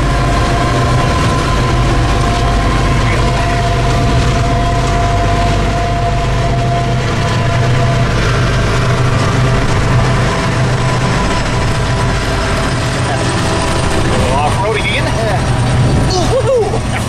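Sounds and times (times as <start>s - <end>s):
heavy engine rumbling: 0.0s - 17.0s.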